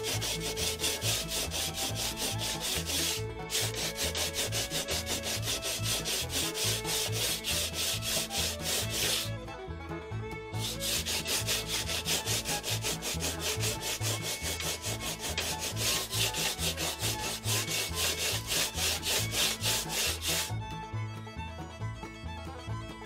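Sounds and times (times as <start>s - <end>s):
sanding block scratching wood: 0.0s - 9.3s, 10.6s - 20.5s
bluegrass music: 0.0s - 23.0s.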